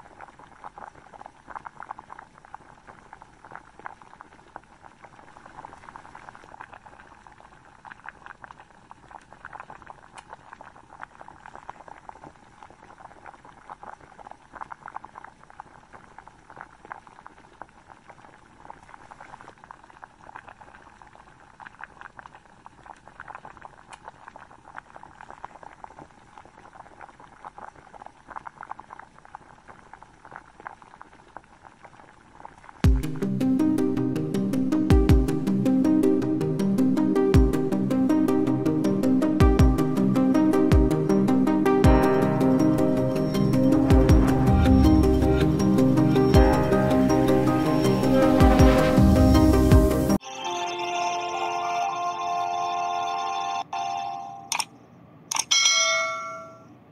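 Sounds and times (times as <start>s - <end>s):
gravy bubbling and popping: 0.0s - 47.2s.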